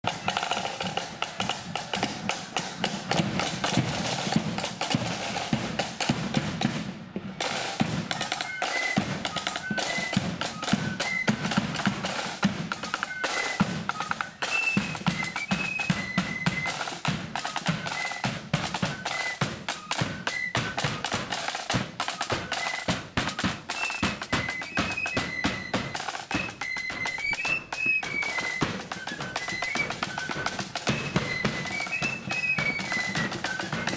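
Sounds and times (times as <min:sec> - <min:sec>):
snare drums: 0:00.0 - 0:33.9
flutes playing high tune: 0:00.1 - 0:05.6, 0:07.5 - 0:33.9.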